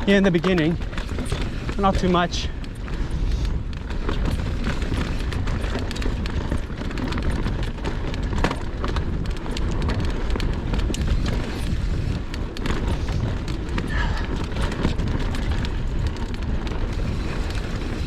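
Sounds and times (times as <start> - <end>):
bike tyres clicking and rattling: 0.0 - 18.0
wind buffeting microphone: 0.0 - 18.0.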